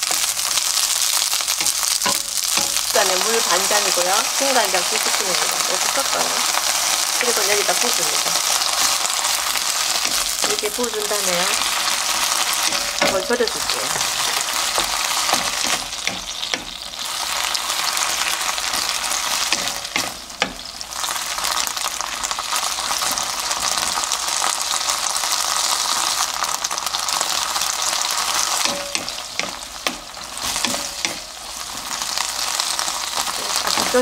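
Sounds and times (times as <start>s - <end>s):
peppers sizzling in a frying pan: 0.0s - 34.0s.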